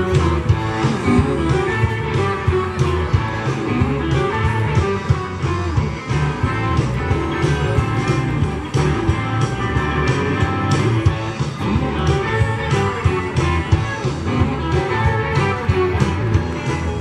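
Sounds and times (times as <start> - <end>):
live blues-rock band: 0.0 - 17.0.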